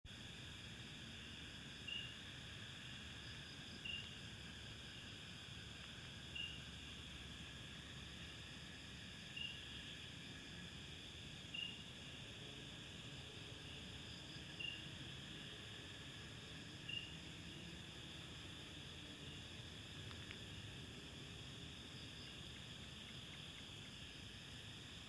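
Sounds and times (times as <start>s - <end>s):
chorus of crickets and insects: 0.1s - 25.0s.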